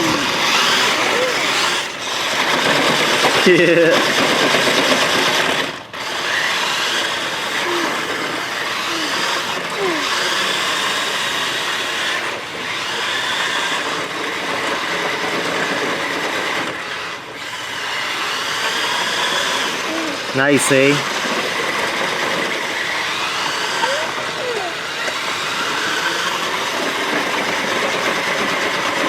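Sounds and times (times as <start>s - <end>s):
toy car electric motor running: 0.0s - 29.0s.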